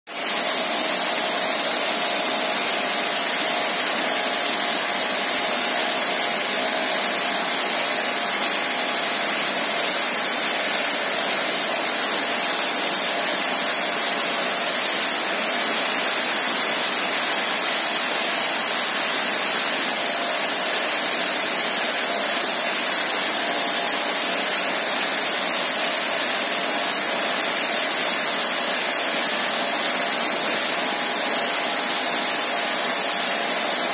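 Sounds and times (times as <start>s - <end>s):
core drill cutting brick: 0.1s - 33.9s.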